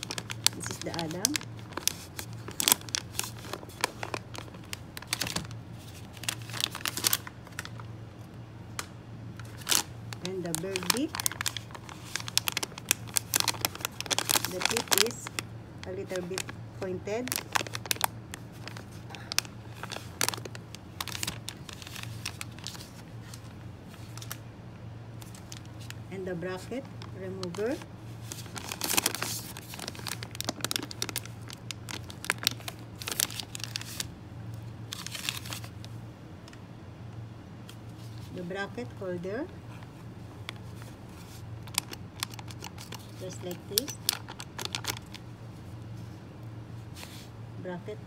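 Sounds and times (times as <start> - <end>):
plastic pouch crinkling: 0.0 - 7.9, 8.8 - 24.4, 25.2 - 26.0, 26.8 - 36.0, 40.4 - 45.8
low steady hum: 0.0 - 48.0.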